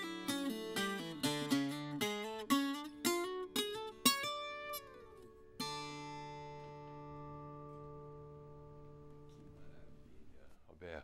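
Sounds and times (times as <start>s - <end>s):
plucked ten-string guitar: 0.0s - 10.2s.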